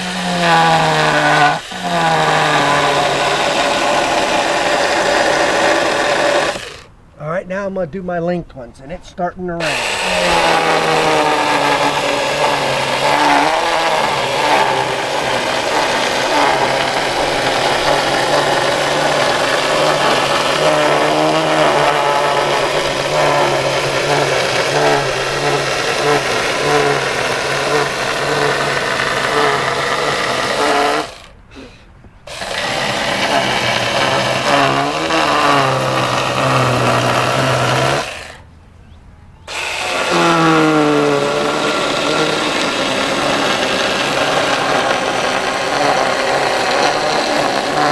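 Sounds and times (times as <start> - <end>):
electric chainsaw cutting wood: 0.0 - 7.0, 9.5 - 38.5, 39.5 - 47.9.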